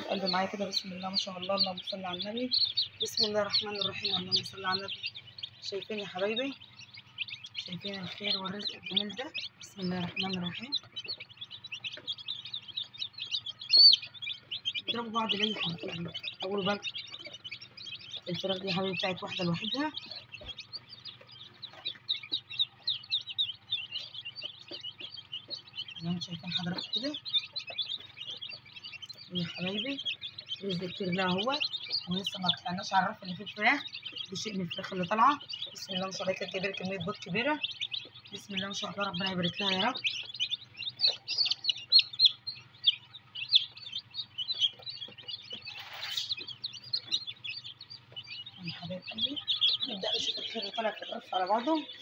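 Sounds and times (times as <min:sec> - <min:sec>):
chicks peeping: 0:00.0 - 0:52.0.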